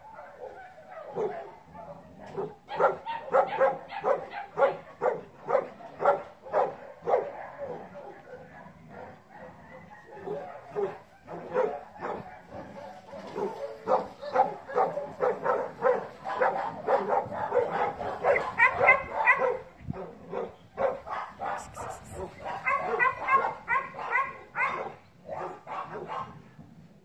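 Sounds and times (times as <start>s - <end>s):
dog barking and yipping: 0.1s - 26.3s.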